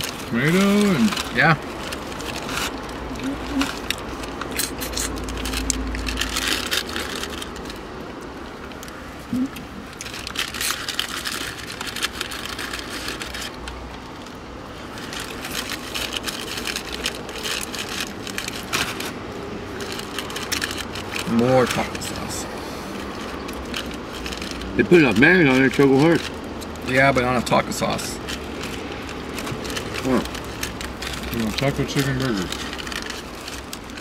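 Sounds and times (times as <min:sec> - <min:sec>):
paper wrapping crinkling: 0:00.0 - 0:34.0.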